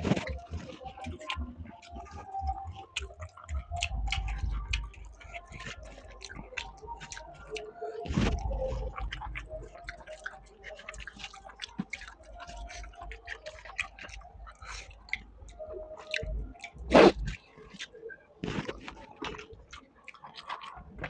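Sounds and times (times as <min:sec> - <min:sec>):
mouth chewing clicks: 0:00.0 - 0:21.0.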